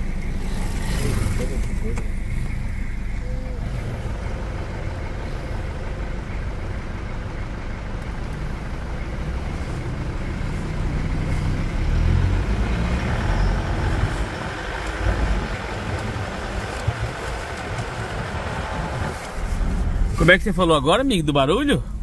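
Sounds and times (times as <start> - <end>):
diesel engine idling and pulling away: 0.0 - 22.0.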